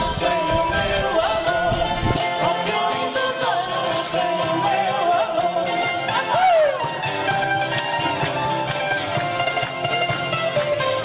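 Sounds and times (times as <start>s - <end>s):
folk music plucked strings: 0.0s - 11.0s.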